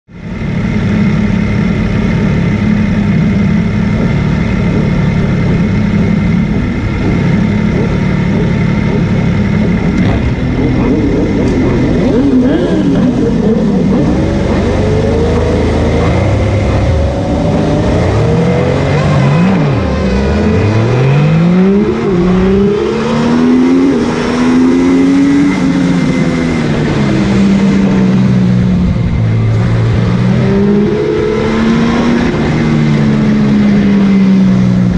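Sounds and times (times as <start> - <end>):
motorcycle engine revving: 0.1 - 34.9
other motorcycle engines: 0.1 - 34.9.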